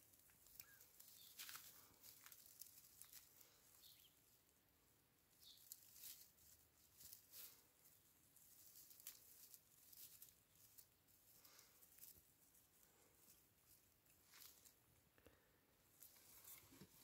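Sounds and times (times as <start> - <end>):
dry straw rustling and crackling: 0.0 - 4.6, 5.2 - 15.0, 15.9 - 17.0.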